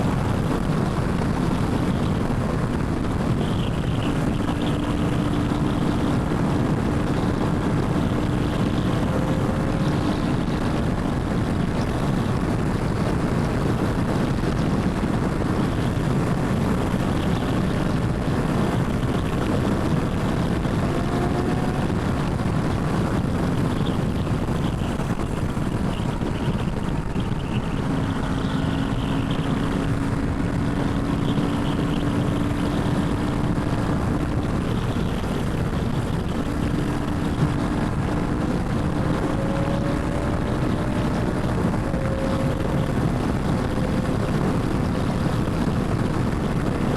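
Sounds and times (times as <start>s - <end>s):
motorcycle engine cruising: 0.0s - 46.9s
wind and road noise: 0.0s - 46.9s.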